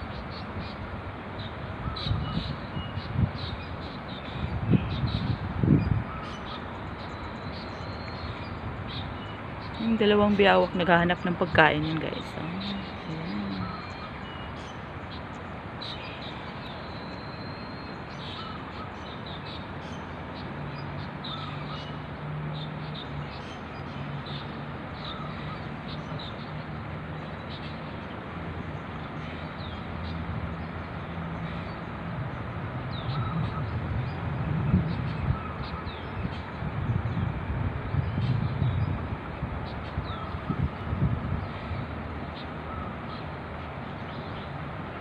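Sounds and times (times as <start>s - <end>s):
outdoor background noise: 0.0s - 45.0s
birds chirping: 1.4s - 39.0s.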